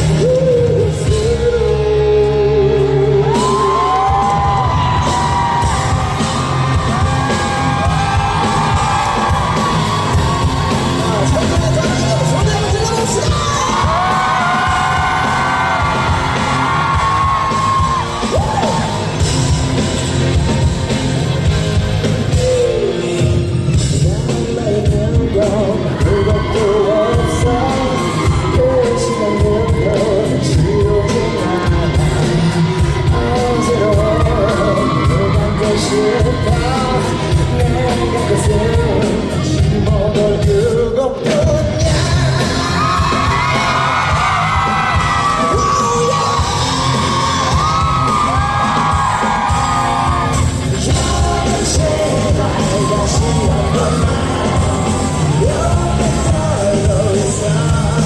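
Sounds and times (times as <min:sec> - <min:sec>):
man singing: 0:00.0 - 0:05.9, 0:06.8 - 0:18.8, 0:22.2 - 0:58.0
pop-rock band playing: 0:00.0 - 0:58.0.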